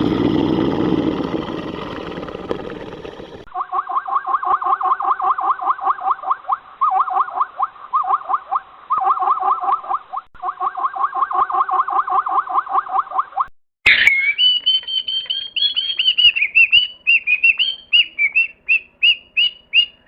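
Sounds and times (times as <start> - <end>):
animal calling: 0.0 - 20.0.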